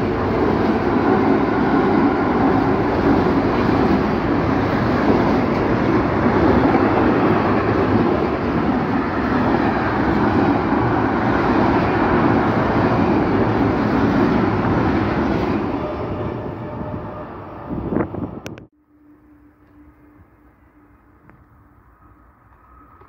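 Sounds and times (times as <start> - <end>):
freight train wheels rolling on rails: 0.0 - 18.7, 19.3 - 23.0.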